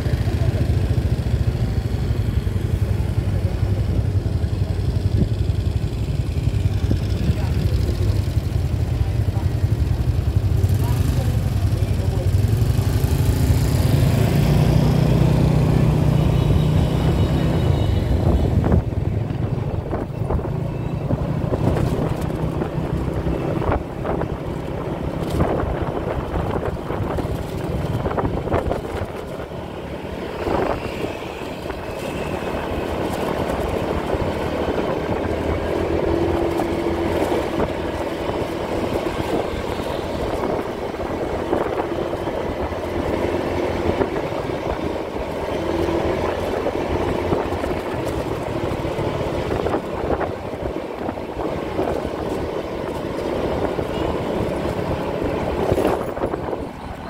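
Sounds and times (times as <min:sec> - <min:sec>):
motorbike engine hum: 0:00.0 - 0:57.0
wind and road noise: 0:00.0 - 0:57.0.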